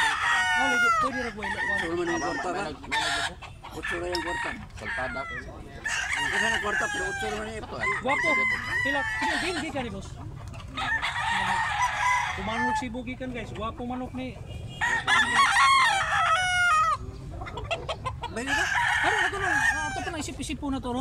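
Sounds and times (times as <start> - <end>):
roosters crowing: 0.0 - 20.6.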